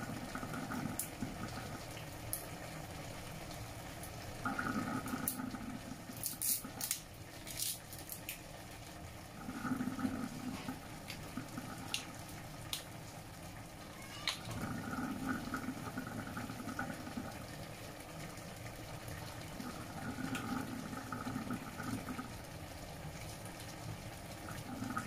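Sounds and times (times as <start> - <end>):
food bubbling in a wok: 0.0 - 25.0.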